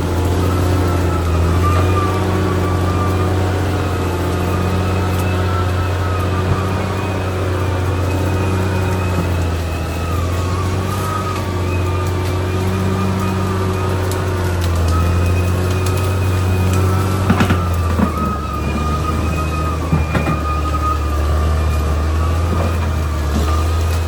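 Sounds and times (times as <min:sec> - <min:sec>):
bulldozer diesel engine running: 0:00.0 - 0:24.0
high whine wavering in pitch: 0:00.0 - 0:24.0.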